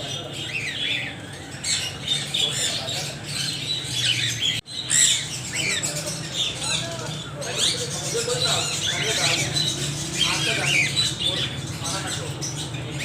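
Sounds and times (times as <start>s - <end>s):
parrots squawking and chirping: 0.0s - 13.0s.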